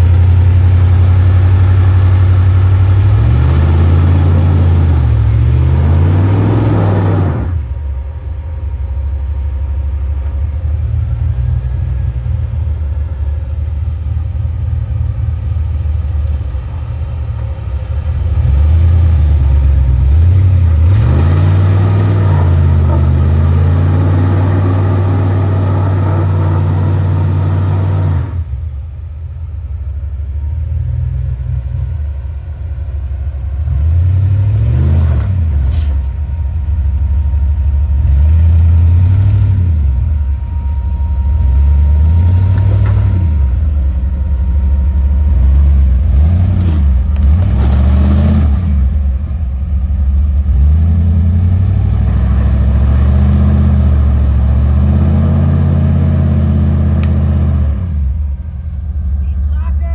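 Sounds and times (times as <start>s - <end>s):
pickup truck engine revving: 0.0s - 29.1s, 29.7s - 59.9s.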